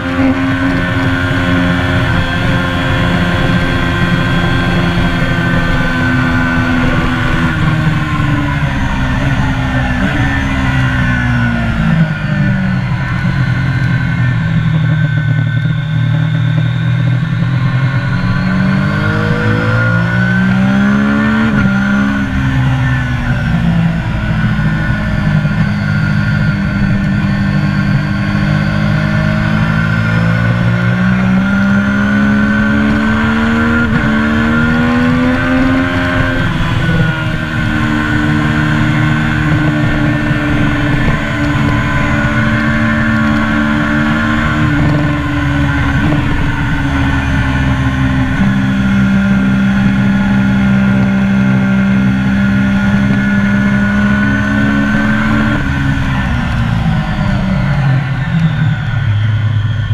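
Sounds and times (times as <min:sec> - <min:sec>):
motorcycle engine at racing speed: 0:00.0 - 0:59.9.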